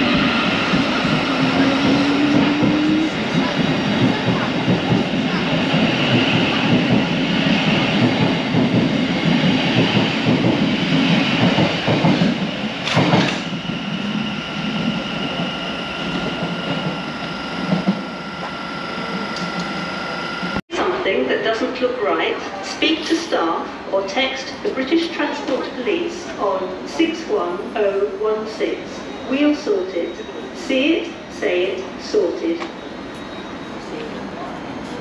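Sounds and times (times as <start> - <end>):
train rumble and wheel clatter: 0.0 - 35.0.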